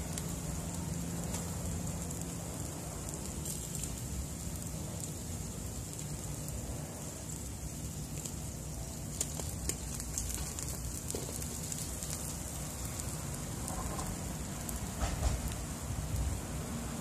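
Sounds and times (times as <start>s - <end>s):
fish sizzling over charcoal: 0.0s - 17.0s.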